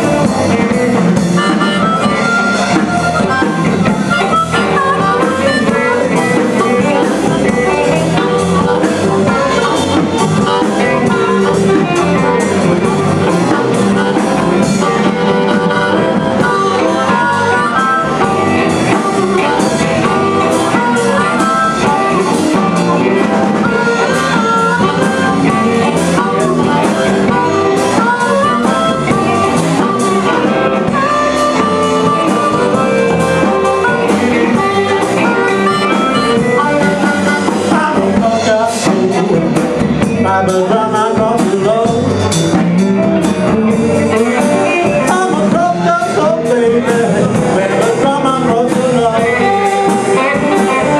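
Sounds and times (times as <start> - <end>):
blues band playing: 0.0 - 50.9
harmonica: 0.0 - 50.9.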